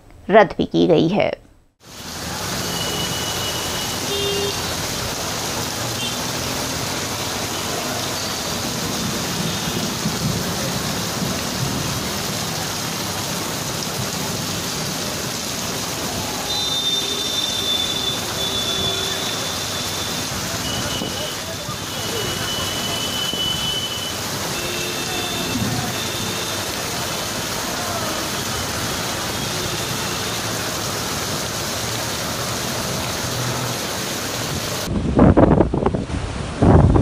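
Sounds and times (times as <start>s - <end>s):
heavy rain falling: 1.8s - 37.0s.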